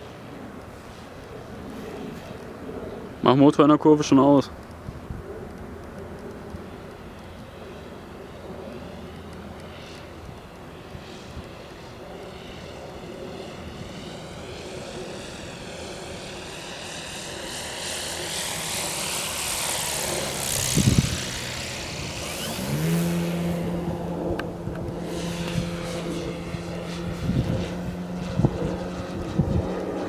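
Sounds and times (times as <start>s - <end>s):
air rushing over model plane: 0.0s - 3.2s, 4.5s - 30.0s
electric motor and propeller hum: 0.0s - 30.0s.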